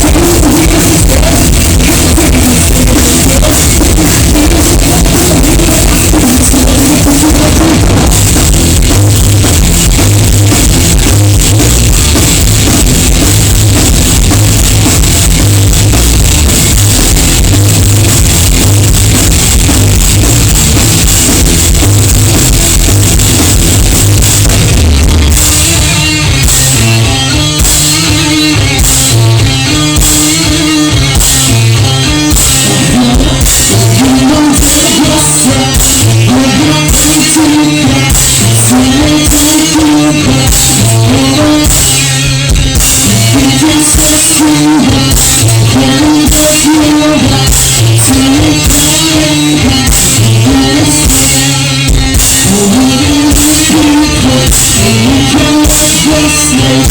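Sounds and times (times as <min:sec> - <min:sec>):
drum and cymbal hits: 0:00.0 - 0:56.9
live rock band playing: 0:00.0 - 0:56.9.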